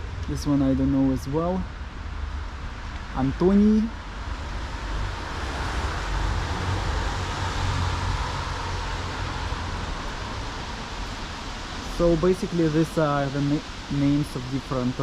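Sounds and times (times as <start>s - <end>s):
car passing: 0.0s - 15.0s
street traffic noise: 0.0s - 15.0s.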